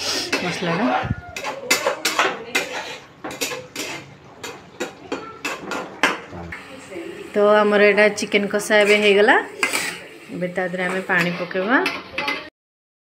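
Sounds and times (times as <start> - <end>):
metal spatula scraping metal pan: 0.0 - 12.5.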